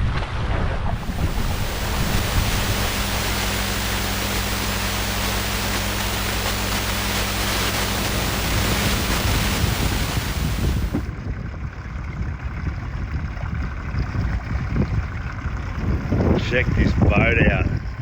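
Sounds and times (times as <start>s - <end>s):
wind and water rushing: 0.0s - 18.0s
outboard motor running: 0.9s - 18.0s.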